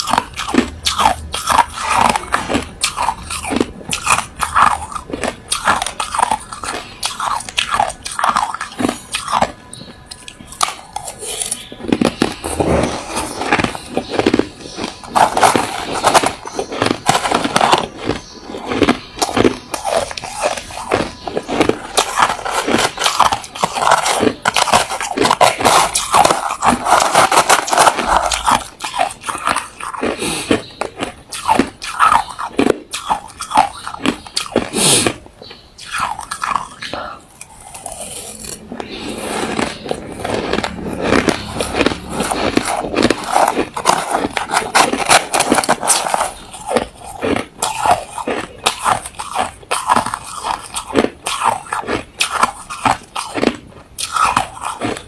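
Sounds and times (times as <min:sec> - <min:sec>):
person crunching ice: 0:00.0 - 0:55.0.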